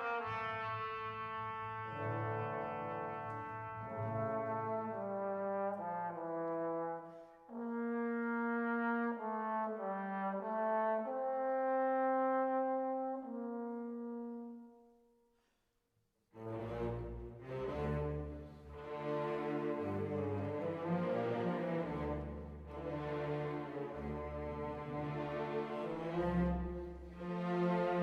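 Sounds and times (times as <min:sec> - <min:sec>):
slow brass melody: 0:00.0 - 0:15.1, 0:16.4 - 0:28.0.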